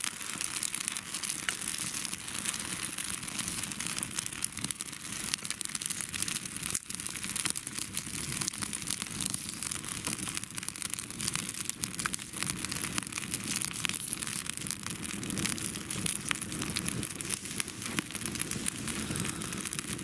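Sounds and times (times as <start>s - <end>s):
campfire crackling and snapping: 0.0s - 20.0s.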